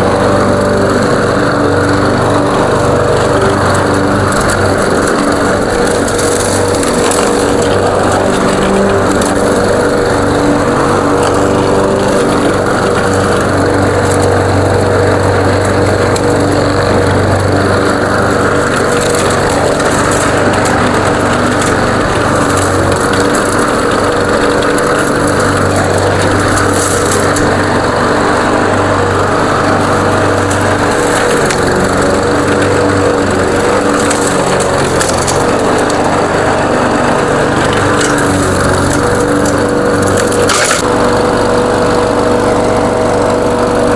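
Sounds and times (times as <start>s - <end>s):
lawn mower engine cutting grass: 0.0s - 43.9s.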